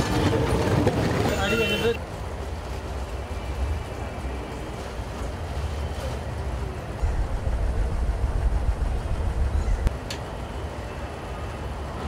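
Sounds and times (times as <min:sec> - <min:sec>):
tram rumbling: 0:00.0 - 0:12.0.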